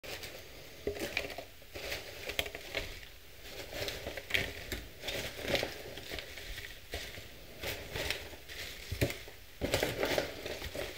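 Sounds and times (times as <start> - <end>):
plastic container crinkling: 0.0 - 10.9
salad greens rustling: 0.0 - 10.9.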